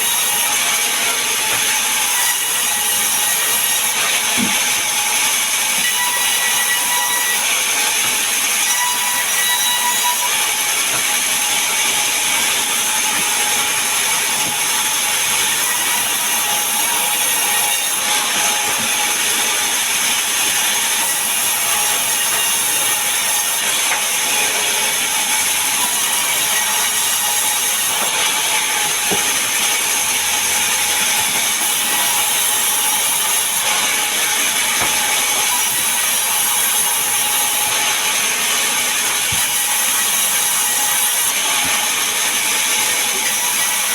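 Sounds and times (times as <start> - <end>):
power saw cutting wood: 0.0 - 43.9.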